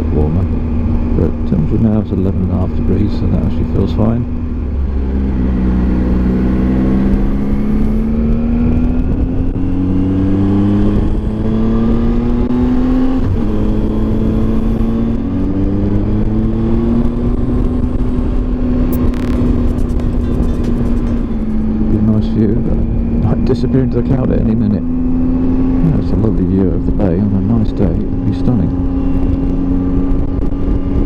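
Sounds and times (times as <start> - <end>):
wind and road noise: 0.0 - 31.0.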